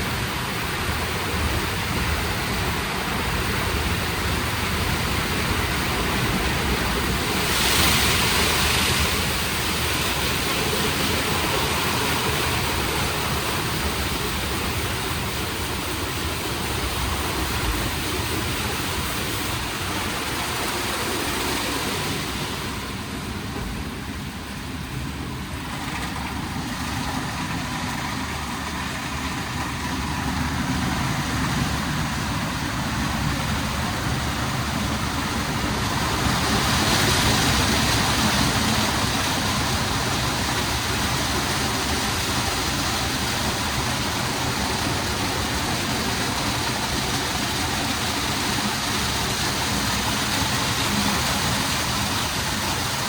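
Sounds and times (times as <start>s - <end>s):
car wash spraying water: 0.0s - 53.0s.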